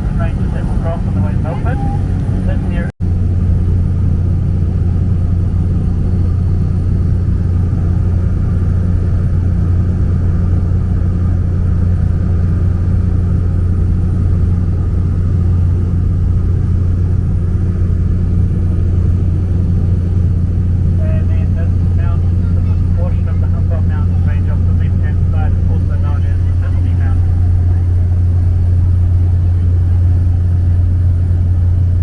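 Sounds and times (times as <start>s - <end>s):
small plane engine humming: 0.0s - 32.0s.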